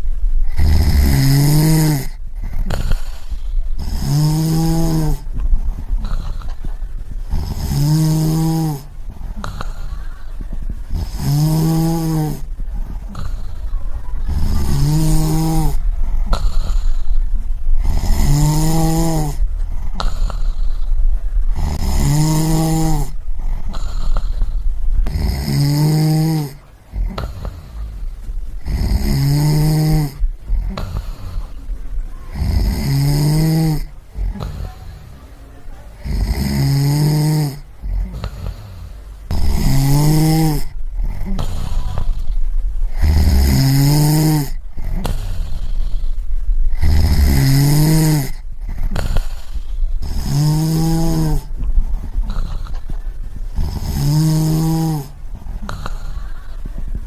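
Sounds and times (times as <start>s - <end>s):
person snoring: 0.4s - 6.6s, 7.3s - 10.2s, 10.9s - 31.6s, 32.3s - 35.2s, 36.0s - 52.9s, 53.5s - 56.7s.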